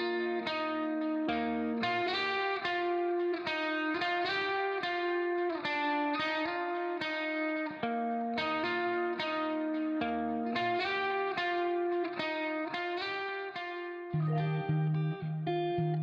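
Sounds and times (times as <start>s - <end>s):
plucked guitar-like music: 0.0s - 16.0s.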